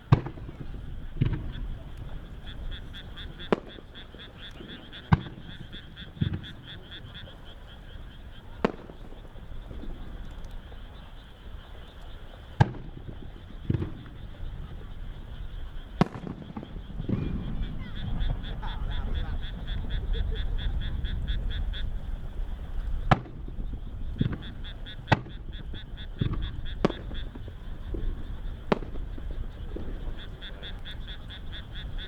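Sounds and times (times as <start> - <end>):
fireworks bursting: 0.0 - 32.0
frogs croaking: 0.0 - 32.0.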